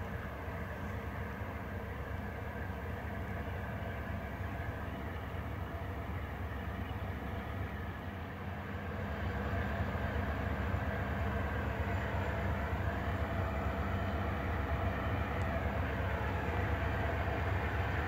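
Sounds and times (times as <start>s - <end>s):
distant diesel locomotive rumble: 0.0s - 18.0s.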